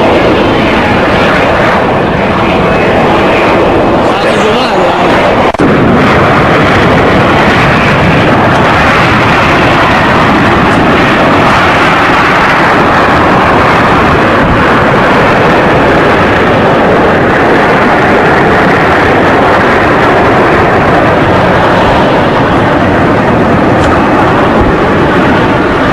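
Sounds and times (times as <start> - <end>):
jet engines running loud: 0.0 - 25.9.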